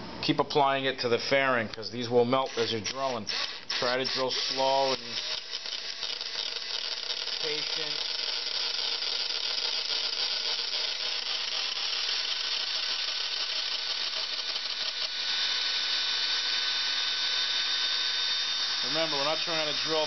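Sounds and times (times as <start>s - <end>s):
electric drill drilling into metal: 2.5s - 20.0s.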